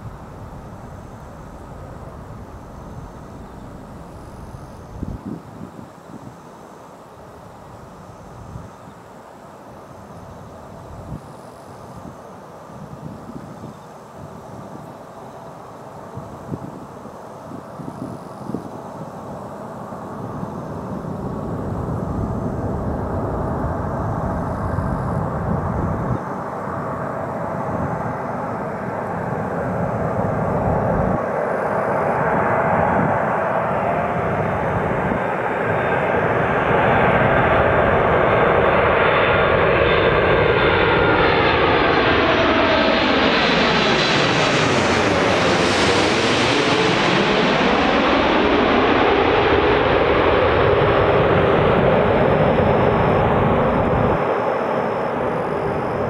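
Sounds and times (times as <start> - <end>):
jet aircraft landing approach: 0.0 - 56.0.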